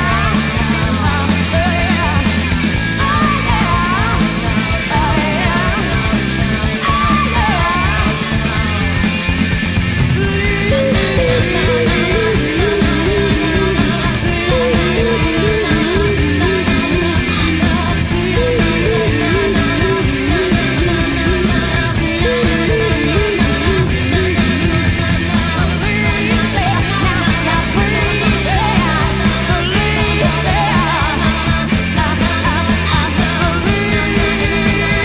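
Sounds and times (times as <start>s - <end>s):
distorted punk rock music: 0.0s - 35.0s.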